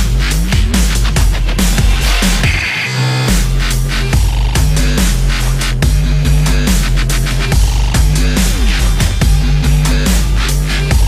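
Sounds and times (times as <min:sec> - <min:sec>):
dubstep electronic dance music: 0:00.0 - 0:11.0.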